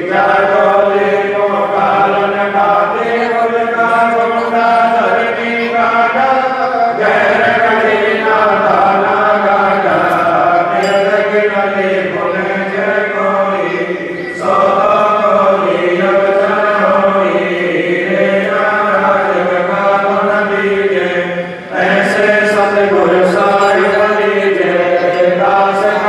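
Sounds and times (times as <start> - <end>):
devotional chanting: 0.0 - 26.0.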